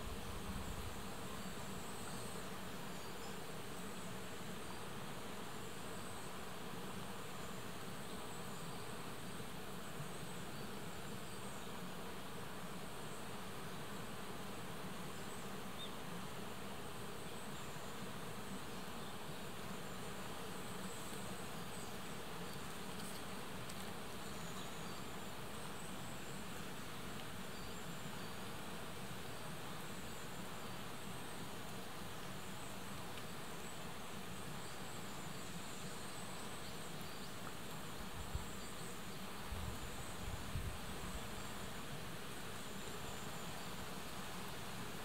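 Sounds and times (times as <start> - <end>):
background hiss: 0.0 - 45.0
flying insects buzzing: 0.0 - 45.0.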